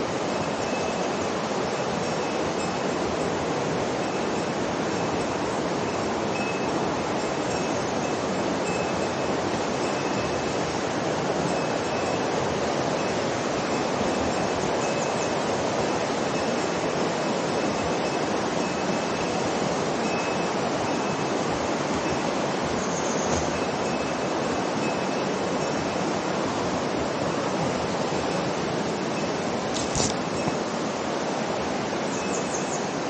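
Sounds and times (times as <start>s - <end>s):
river water rushing over rocks: 0.0s - 33.0s.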